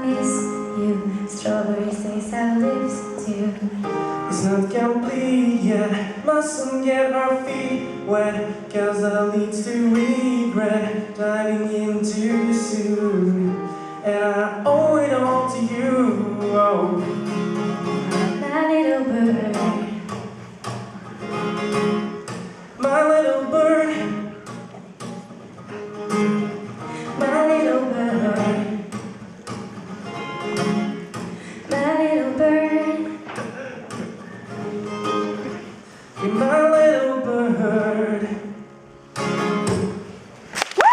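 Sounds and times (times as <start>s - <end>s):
acoustic guitar: 0.0s - 40.9s.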